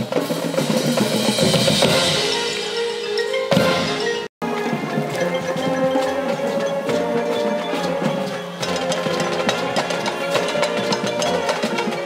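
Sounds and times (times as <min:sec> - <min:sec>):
marching band brass: 0:00.0 - 0:12.0
sharp percussion hits: 0:00.0 - 0:12.0.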